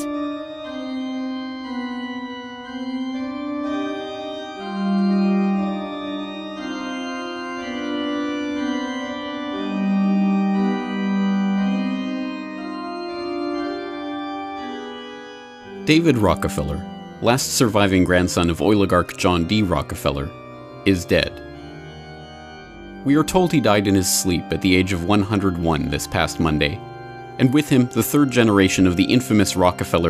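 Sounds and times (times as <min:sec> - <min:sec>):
loud low organ note: 0:00.0 - 0:30.0
sustained organ chords: 0:00.0 - 0:30.0.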